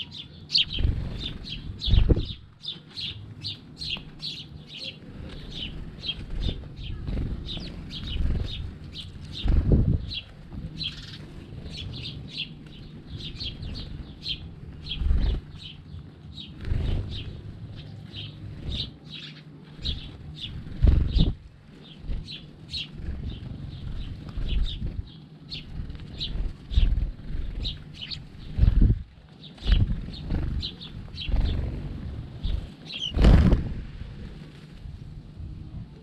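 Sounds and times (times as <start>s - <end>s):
sparrows chirping: 0.0s - 36.0s
wings flapping: 0.5s - 35.6s.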